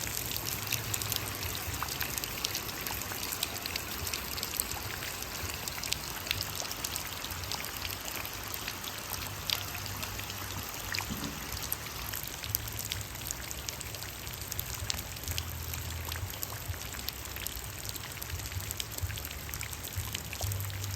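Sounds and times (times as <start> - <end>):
rain hiss: 0.0 - 20.9
raindrops ticking: 0.0 - 20.9.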